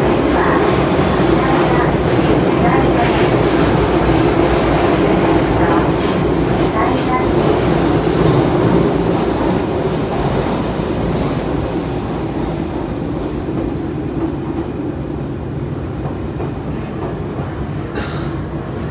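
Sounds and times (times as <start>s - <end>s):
low rumble inside train car: 0.0s - 18.9s.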